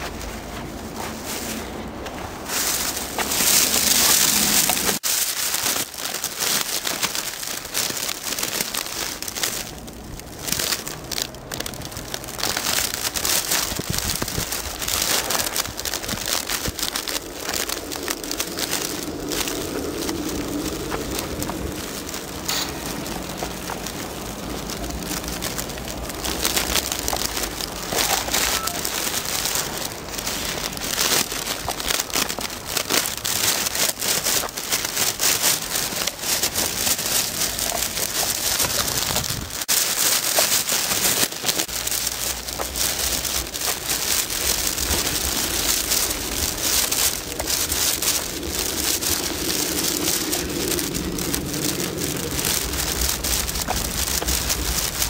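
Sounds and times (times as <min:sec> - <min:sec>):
footsteps crunching in snow: 0:00.0 - 0:55.0
stiff jeans rustling: 0:00.0 - 0:55.0.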